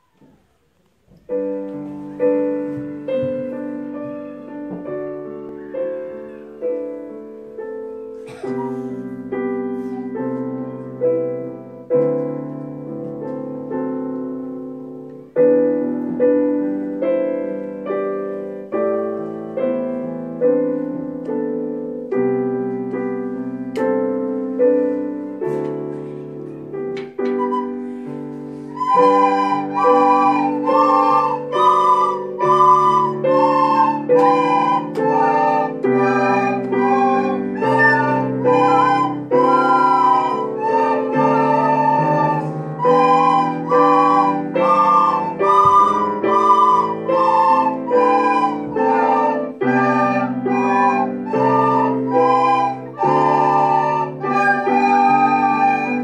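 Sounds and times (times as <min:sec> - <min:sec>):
piano playing chords and melody: 0:01.0 - 0:56.0.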